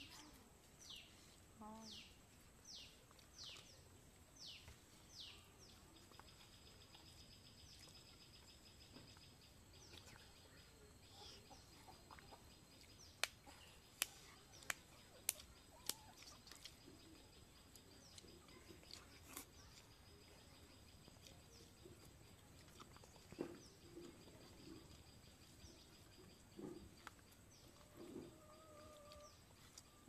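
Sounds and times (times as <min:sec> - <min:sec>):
faint outdoor ambience: 0:00.0 - 0:30.0
bird chirps: 0:04.4 - 0:30.0.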